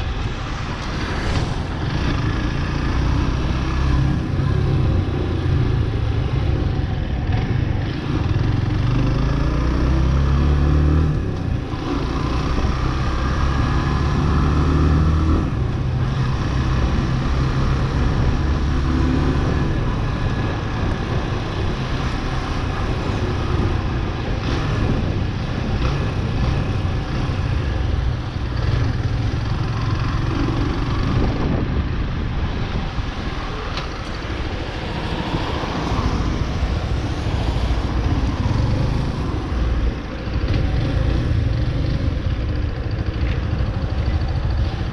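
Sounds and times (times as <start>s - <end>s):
road noise: 0.0s - 44.9s
wind noise: 0.0s - 44.9s.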